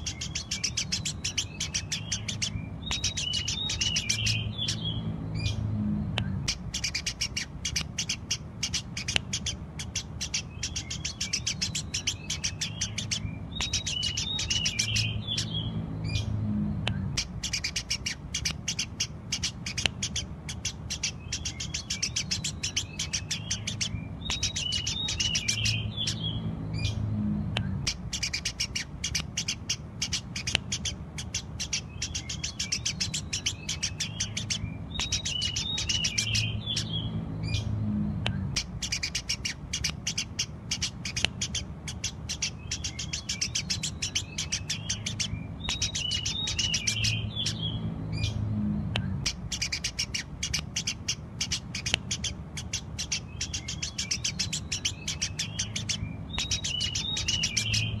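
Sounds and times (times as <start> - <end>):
low steady hum: 0.0 - 58.0
sparrow chirping: 0.0 - 58.0.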